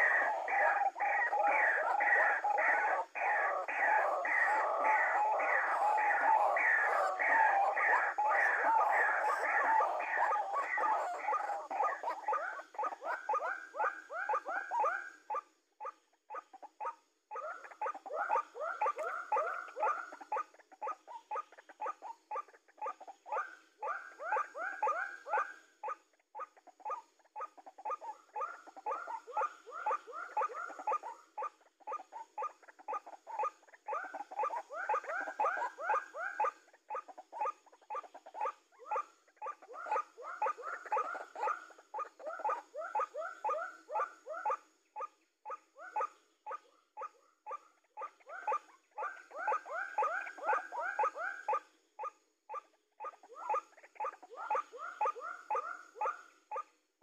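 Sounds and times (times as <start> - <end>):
bird harsh croaking calls: 0.0 - 15.4, 16.0 - 56.6.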